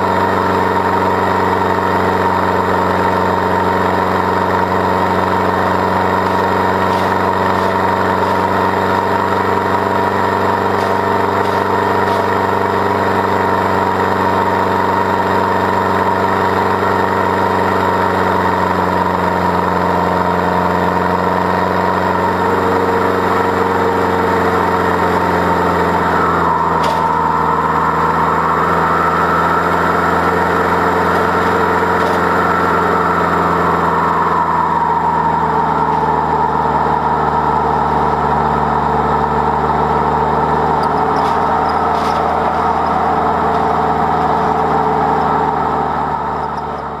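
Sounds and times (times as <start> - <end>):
engine pulling under load: 0.0 - 47.0.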